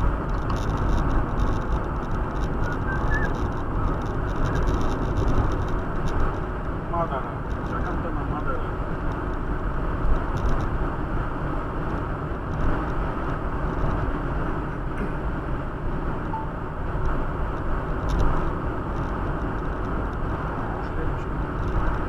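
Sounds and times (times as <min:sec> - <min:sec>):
road and engine noise: 0:00.0 - 0:22.0.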